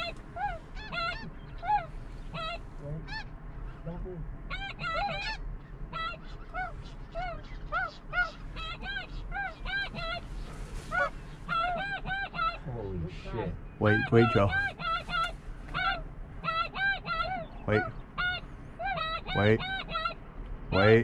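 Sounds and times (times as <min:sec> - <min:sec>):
geese honking: 0:00.0 - 0:03.8, 0:04.5 - 0:21.0.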